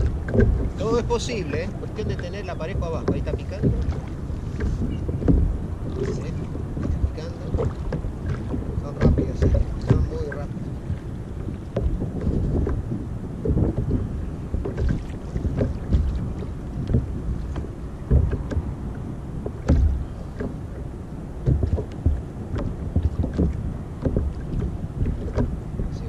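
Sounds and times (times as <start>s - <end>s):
waves slapping plastic hull: 0.0s - 26.0s
wind buffeting microphone: 0.0s - 26.0s.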